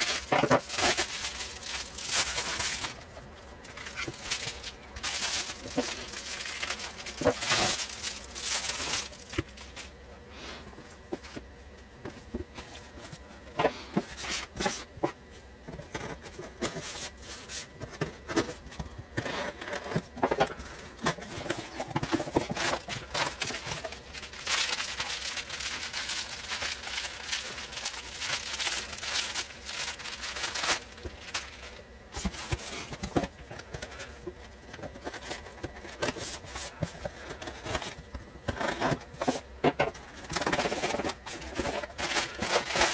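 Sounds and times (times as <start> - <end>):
packaging rustling and crinkling: 0.0 - 10.0, 10.8 - 42.9.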